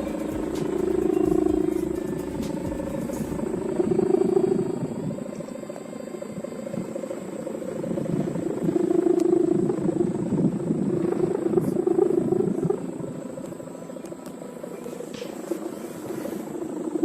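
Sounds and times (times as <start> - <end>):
kite hummer droning: 0.0 - 17.0.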